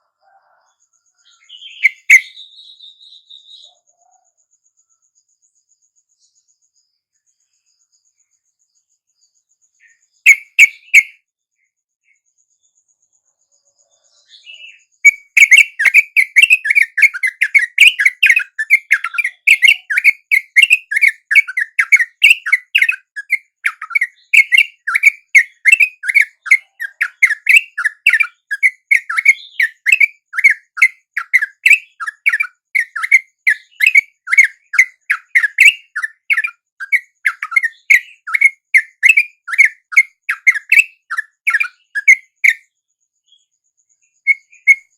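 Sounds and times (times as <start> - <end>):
bird chirping chatter: 0.0 - 5.0, 9.8 - 11.2, 13.6 - 42.7, 43.3 - 44.9.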